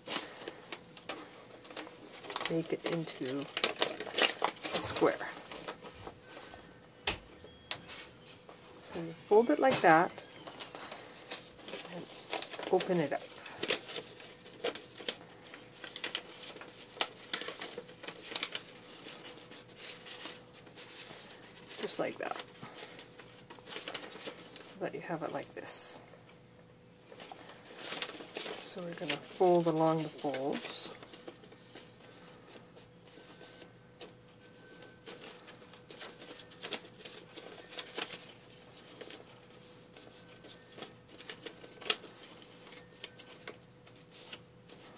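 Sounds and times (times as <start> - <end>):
paper rustling and crackling: 0.0 - 25.9, 27.0 - 44.9.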